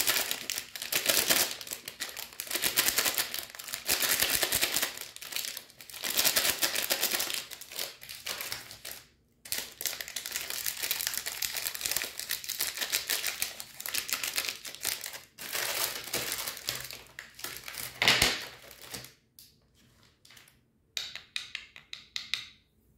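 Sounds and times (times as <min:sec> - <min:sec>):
foil wrappers crinkling: 0:00.0 - 0:19.2.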